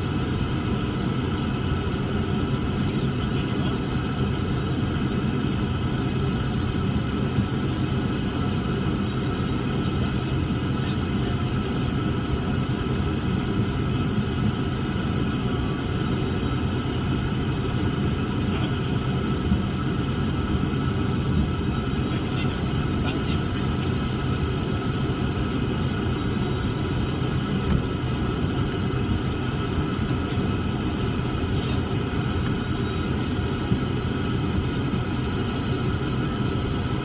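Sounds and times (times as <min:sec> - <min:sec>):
aircraft piston engines droning: 0:00.0 - 0:37.0.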